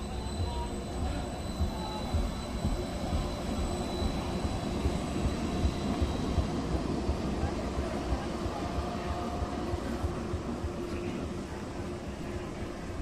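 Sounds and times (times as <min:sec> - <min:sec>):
faint high-pitched whine: 0:00.0 - 0:13.0
train rumble: 0:00.0 - 0:13.0.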